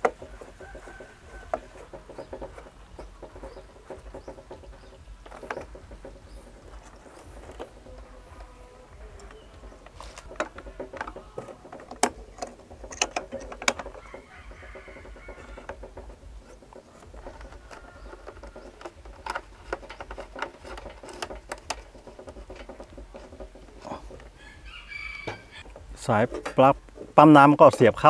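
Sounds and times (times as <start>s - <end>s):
clicks of plastic box handling: 0.0s - 24.4s.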